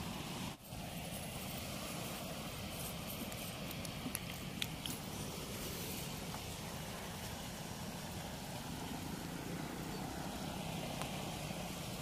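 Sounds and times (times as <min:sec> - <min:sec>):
water rushing through sluice gates: 0:00.0 - 0:12.0.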